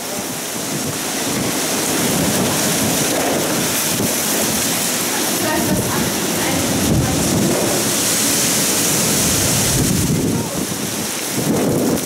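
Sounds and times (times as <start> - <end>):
gusting wind: 0.0 - 12.0
heavy rain: 0.0 - 12.0
wind buffeting microphone: 0.0 - 12.0.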